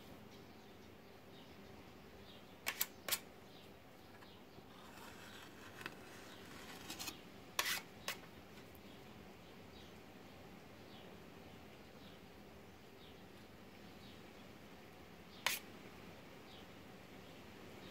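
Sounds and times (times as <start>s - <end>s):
faint steady hiss: 0.0s - 17.9s.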